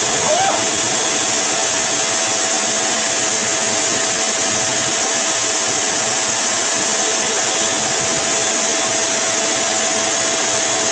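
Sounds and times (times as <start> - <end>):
grooming dryer blowing air: 0.0 - 10.9.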